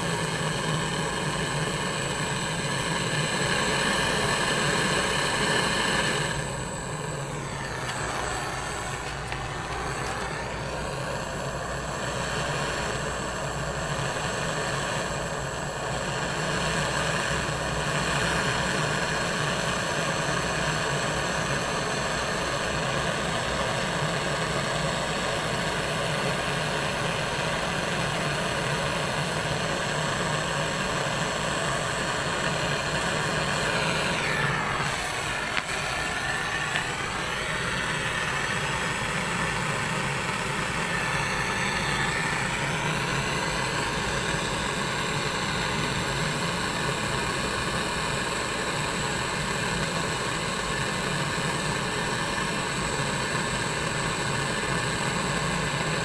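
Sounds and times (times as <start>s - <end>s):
gas torch hissing roar: 0.0s - 56.0s.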